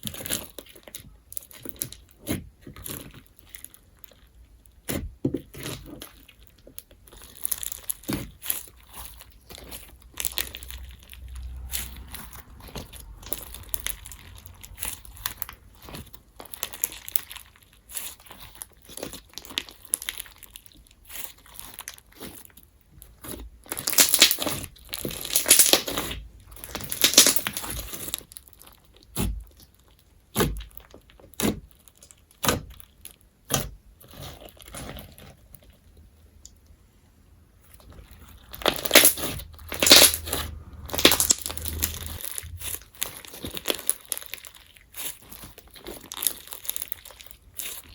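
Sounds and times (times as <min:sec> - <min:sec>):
slime crunching under hands: 0:00.0 - 0:36.6, 0:37.6 - 0:47.9.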